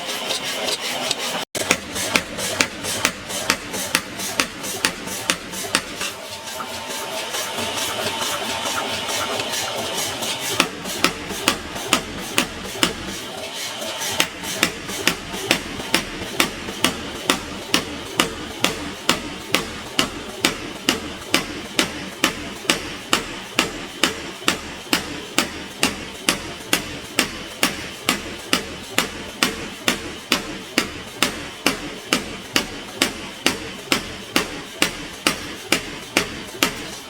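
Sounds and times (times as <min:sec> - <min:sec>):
hammer striking metal on anvil: 0:01.6 - 0:08.2, 0:10.4 - 0:13.2, 0:14.0 - 0:37.0.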